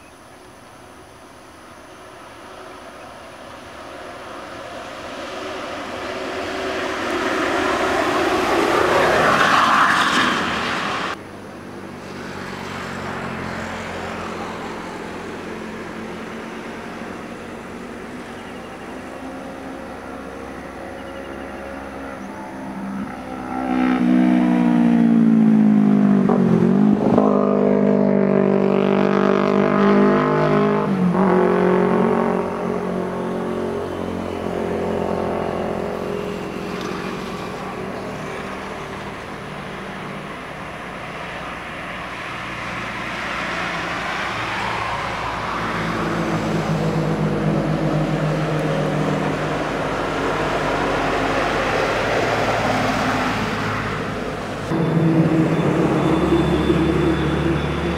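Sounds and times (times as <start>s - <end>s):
tyre and road noise: 0.0s - 57.9s
coach engine passing: 2.3s - 57.9s.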